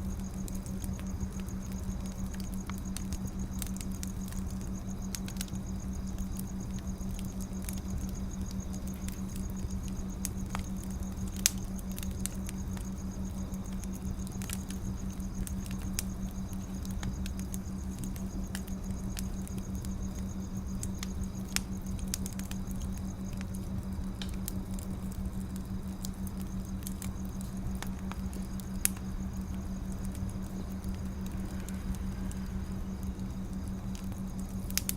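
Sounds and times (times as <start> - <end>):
firewood crackling: 0.0 - 34.9
low rumble of fire: 0.0 - 34.9
sharp pops of fire: 0.2 - 34.9.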